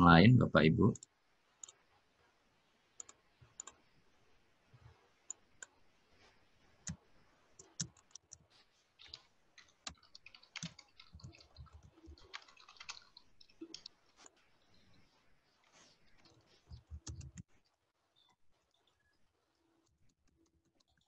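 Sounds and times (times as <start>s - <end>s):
faint keyboard typing: 0.8s - 21.0s.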